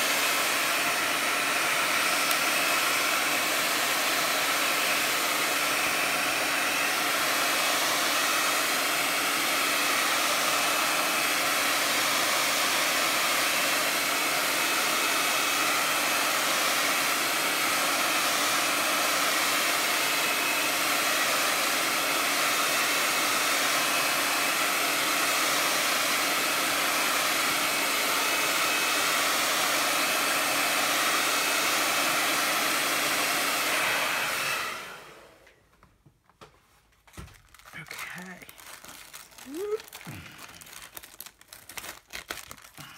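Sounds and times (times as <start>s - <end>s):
hair dryer blowing air: 0.0s - 35.6s, 37.2s - 42.9s.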